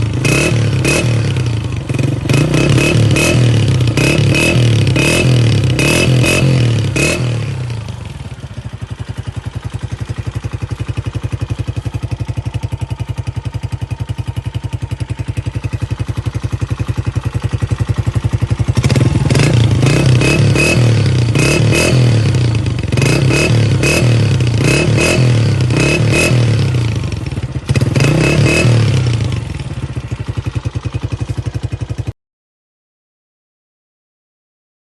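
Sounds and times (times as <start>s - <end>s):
motorcycle engine revving and idling: 0.0s - 32.2s.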